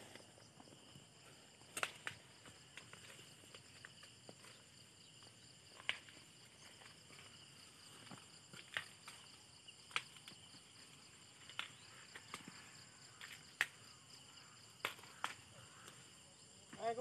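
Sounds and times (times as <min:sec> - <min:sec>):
high-pitched insect chorus: 0:00.0 - 0:17.0
snaps and rustles of dry stalks: 0:00.9 - 0:16.1.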